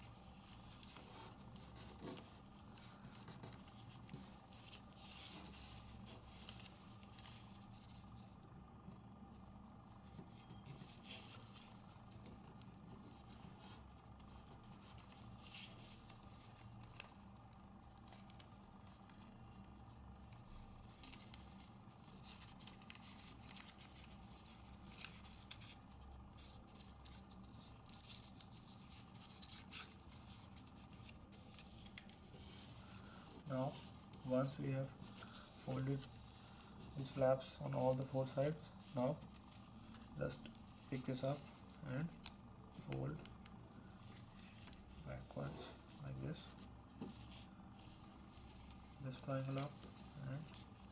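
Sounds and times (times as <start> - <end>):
crisp paper crackles: 0.0 - 8.5, 9.2 - 50.9
paper being folded: 0.0 - 8.5, 9.2 - 50.9.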